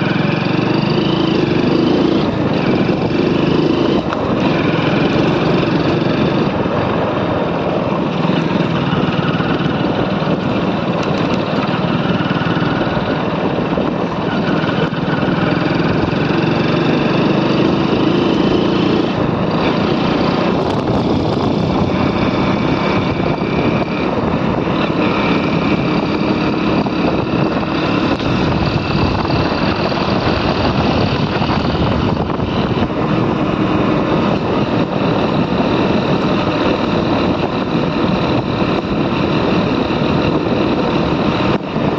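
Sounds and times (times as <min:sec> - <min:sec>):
continuous rushing noise: 0:00.0 - 0:41.9
motorcycle engine running: 0:00.0 - 0:41.9.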